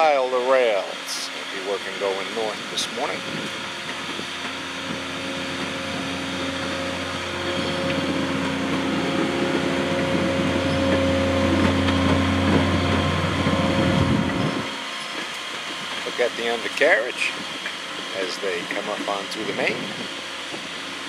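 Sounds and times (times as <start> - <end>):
diesel engines humming: 0.0 - 21.0.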